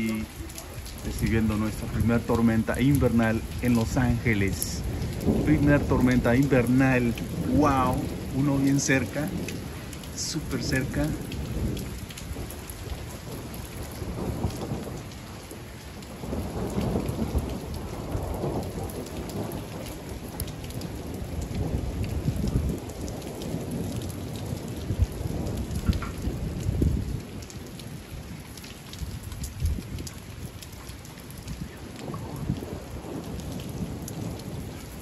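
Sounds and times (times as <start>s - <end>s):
rolling thunder: 0.0s - 30.6s, 31.4s - 35.0s
rain falling: 0.0s - 35.0s
raindrops ticking on surfaces: 0.0s - 35.0s.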